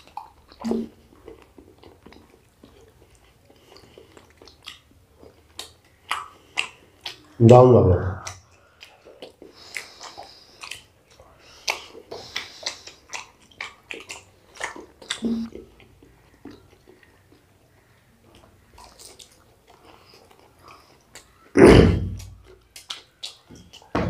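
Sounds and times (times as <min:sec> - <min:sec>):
people chewing and crunching food: 0:00.0 - 0:07.4, 0:08.2 - 0:24.0.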